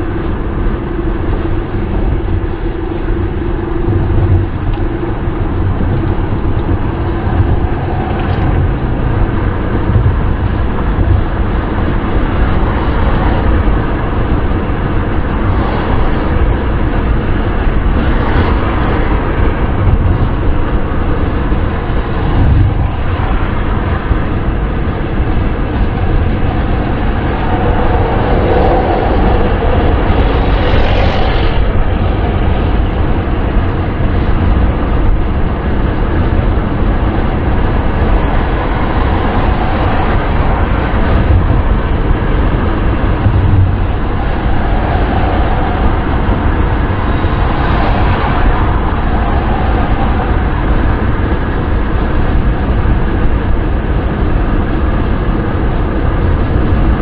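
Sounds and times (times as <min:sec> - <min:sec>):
car wind and road noise: 0:00.0 - 0:57.0.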